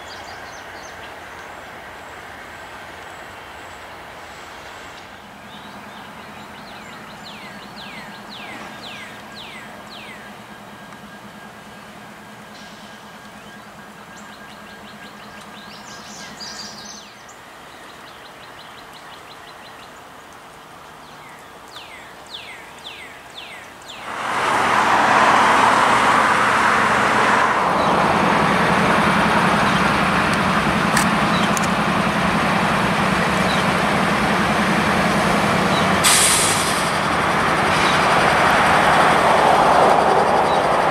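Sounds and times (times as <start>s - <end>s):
freight train rumbling past: 0.0s - 17.1s, 24.0s - 40.9s
birds chirping: 0.0s - 24.2s, 27.7s - 36.0s, 36.9s - 40.9s.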